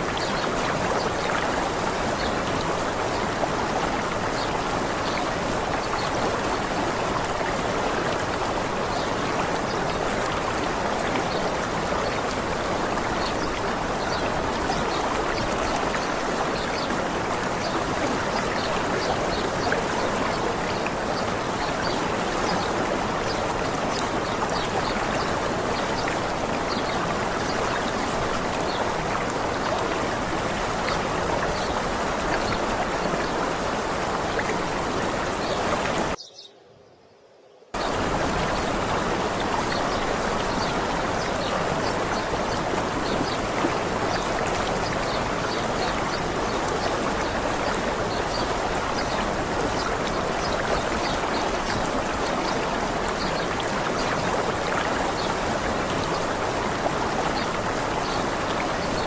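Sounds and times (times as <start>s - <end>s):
waterfall rushing: 0.0s - 36.2s, 37.8s - 59.0s.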